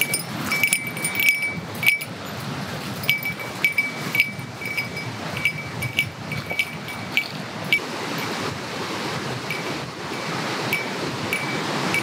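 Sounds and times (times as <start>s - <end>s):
small metal bell ringing: 0.0s - 7.8s, 9.5s - 12.0s.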